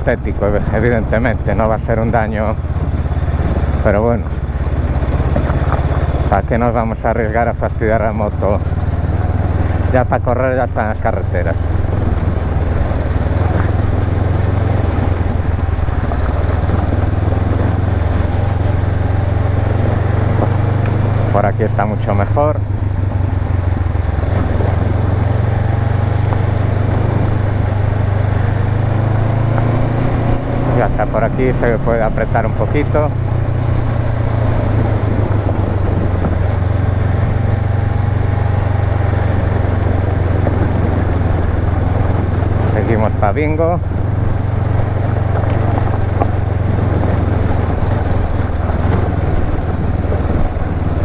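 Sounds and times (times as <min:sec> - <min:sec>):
motorcycle engine running: 0:00.0 - 0:51.0
steady rushing noise: 0:00.0 - 0:51.0.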